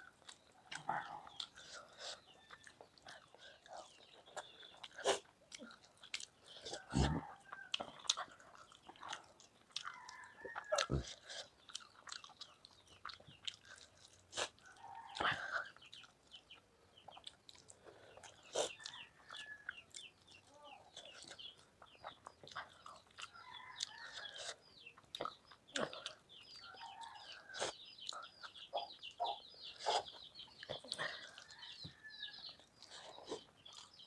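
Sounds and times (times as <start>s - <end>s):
wet chewing and lip smacks: 0.0s - 34.0s.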